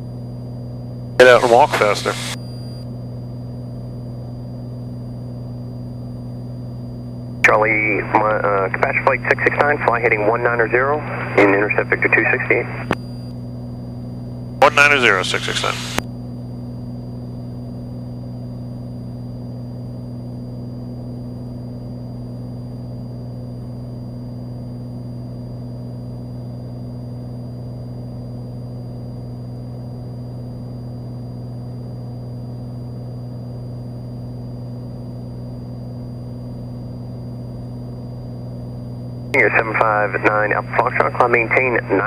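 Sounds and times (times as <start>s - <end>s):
airplane engine and propeller drone: 0.0s - 42.0s
faint high whine: 0.4s - 42.0s.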